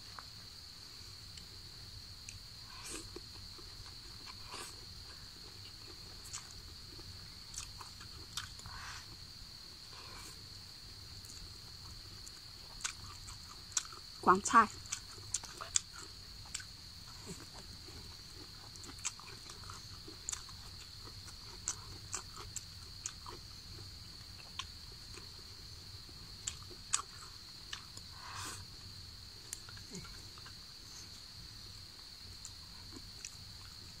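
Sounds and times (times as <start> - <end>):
person chewing food: 2.2 - 31.4, 32.0 - 33.9.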